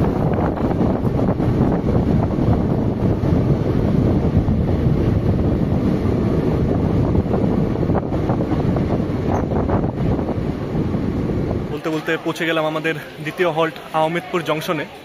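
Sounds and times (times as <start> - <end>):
train rumbling at speed: 0.0 - 13.9
wind buffeting microphone: 0.0 - 15.0.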